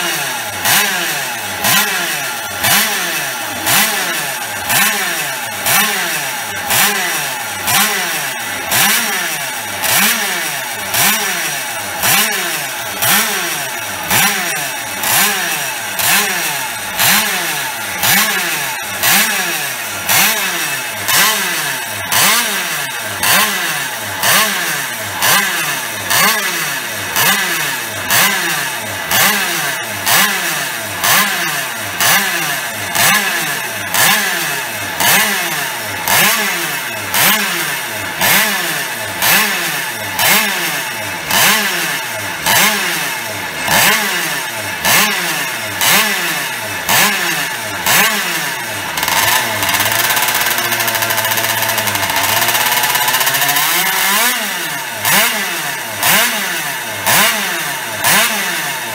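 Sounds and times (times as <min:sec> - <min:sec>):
two-stroke motorcycle engine revving: 0:00.0 - 0:58.9.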